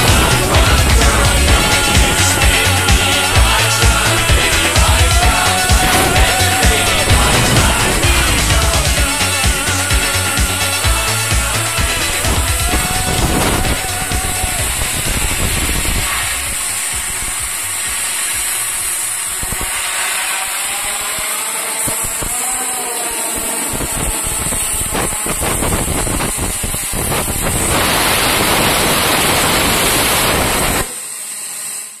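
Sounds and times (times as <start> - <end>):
plasma torch hissing: 0.0 - 32.0.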